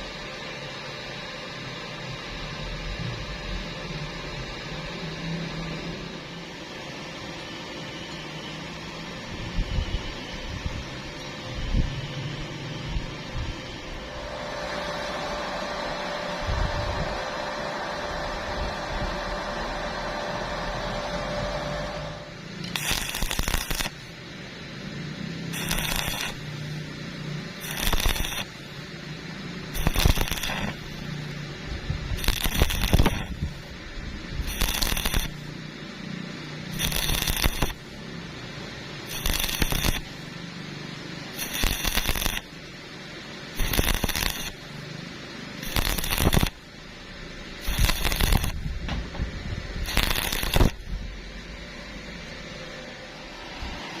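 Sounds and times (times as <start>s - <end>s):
steady machine hum: 0.0s - 54.0s
arc welding crackling: 5.7s - 54.0s.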